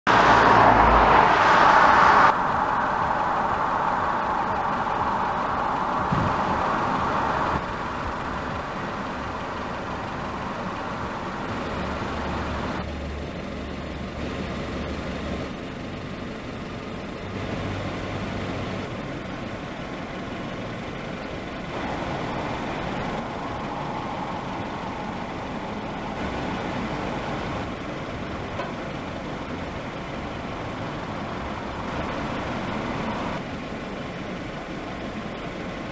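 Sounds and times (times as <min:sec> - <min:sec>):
heavy vehicle engines running: 0:00.0 - 0:35.9
road traffic: 0:00.0 - 0:35.9.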